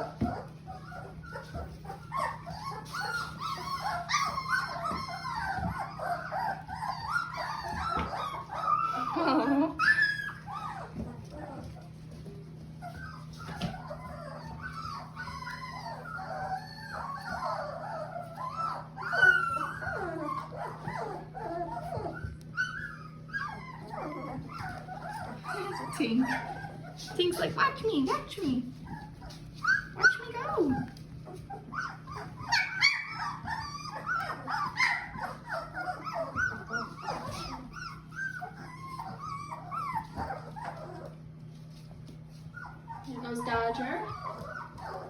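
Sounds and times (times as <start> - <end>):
puppies whimpering and squealing: 0.0 - 45.0.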